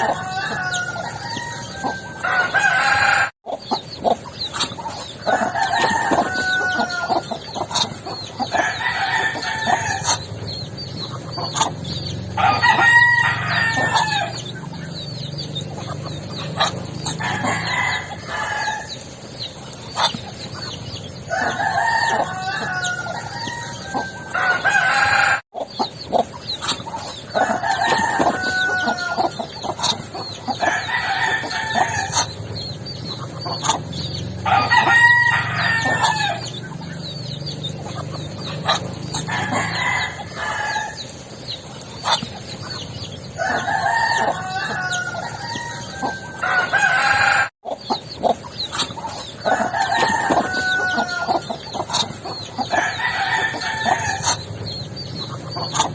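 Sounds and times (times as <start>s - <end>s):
chickens clucking and chirping: 0.0s - 55.9s
roosters crowing: 0.0s - 55.9s.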